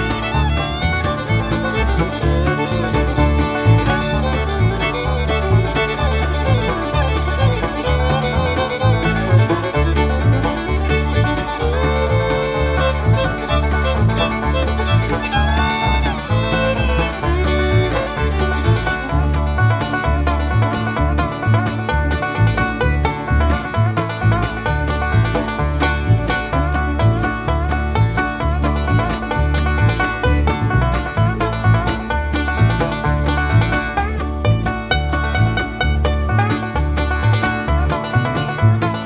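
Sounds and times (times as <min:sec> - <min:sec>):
banjo: 0:00.0 - 0:39.0
fiddle: 0:00.0 - 0:39.0
rhythmic bass beat: 0:00.0 - 0:39.0.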